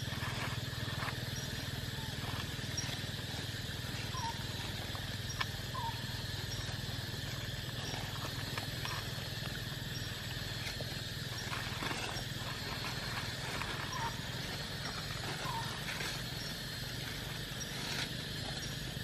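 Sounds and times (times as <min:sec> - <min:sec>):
outdoor hum and hiss: 0:00.0 - 0:19.0
small chirp: 0:00.2 - 0:19.0.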